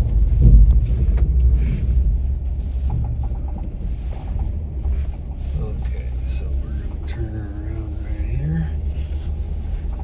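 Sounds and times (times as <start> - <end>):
light rattles: 0.0 - 10.0
vehicle engine rumbling: 0.0 - 10.0.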